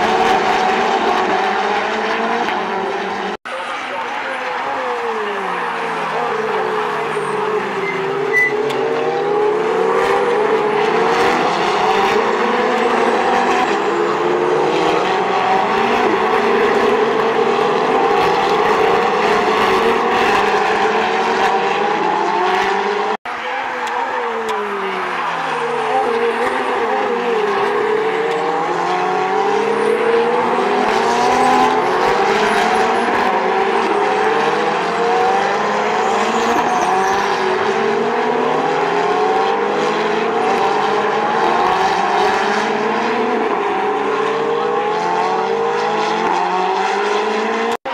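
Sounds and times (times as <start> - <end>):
race cars revving and shifting: 0.0 - 47.9.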